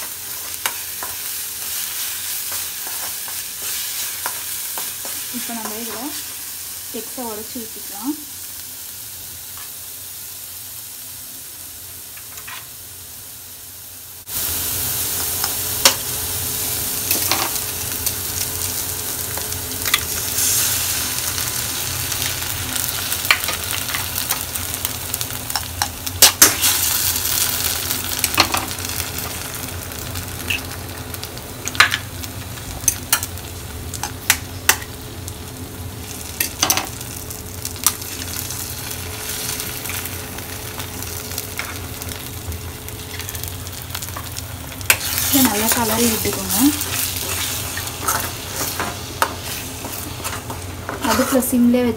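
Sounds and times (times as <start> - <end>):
food sizzling in oil: 0.0 - 51.9.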